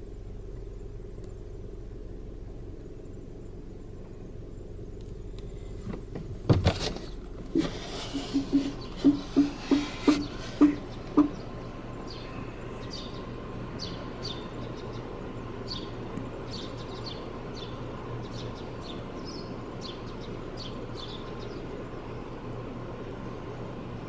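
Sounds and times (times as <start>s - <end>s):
steady low hum: 0.0s - 24.0s
small birds chirping: 0.3s - 6.1s, 7.0s - 24.0s.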